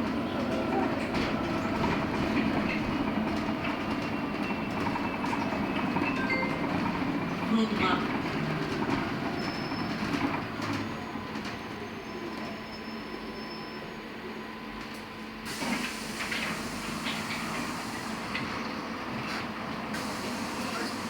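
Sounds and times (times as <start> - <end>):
bus cabin hum: 0.0 - 12.2, 14.0 - 21.0.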